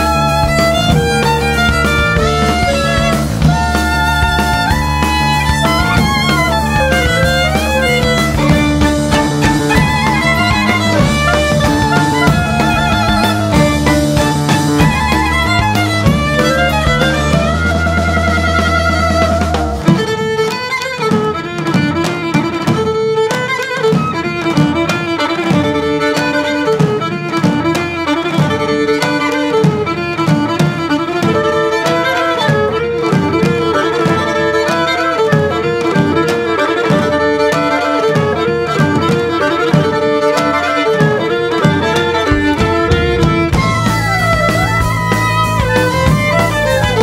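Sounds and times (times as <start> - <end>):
band music with violin and clarinet: 0.0 - 47.0.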